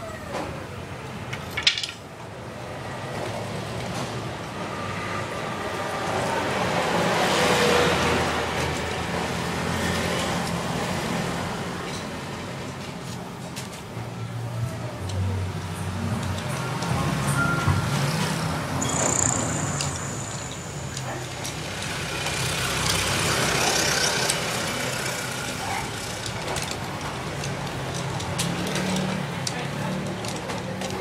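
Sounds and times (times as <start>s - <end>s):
vehicle passing: 2.7s - 11.8s, 14.2s - 31.0s.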